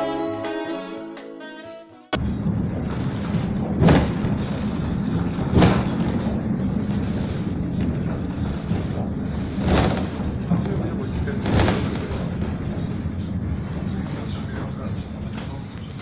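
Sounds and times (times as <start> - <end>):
vehicle engine and road noise: 2.2 - 16.0.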